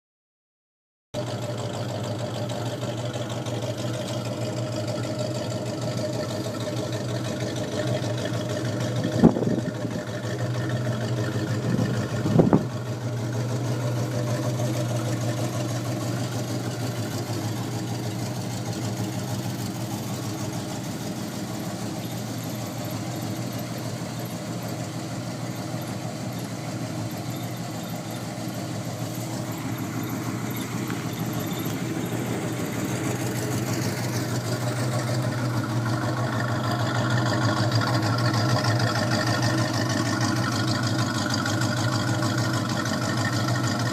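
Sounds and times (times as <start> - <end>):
deep engine idling: 1.2 - 43.9.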